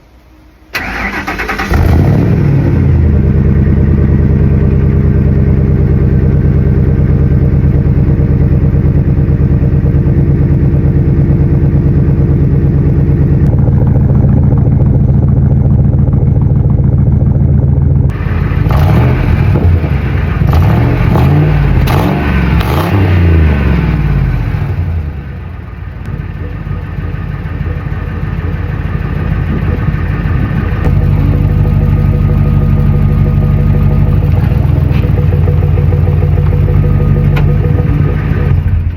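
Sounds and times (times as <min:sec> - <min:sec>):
truck engine starting and idling: 0:00.0 - 0:38.9
truck engine revving: 0:00.7 - 0:17.0, 0:18.0 - 0:38.9.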